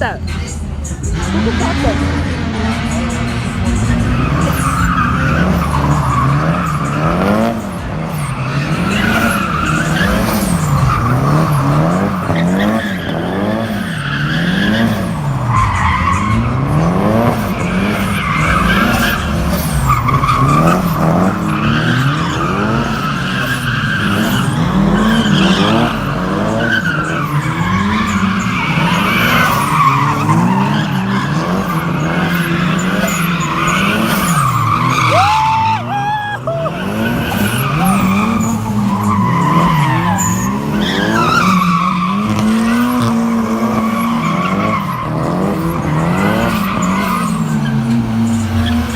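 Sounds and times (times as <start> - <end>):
car engine revving: 0.0 - 48.9
tyre squeal: 2.8 - 48.9.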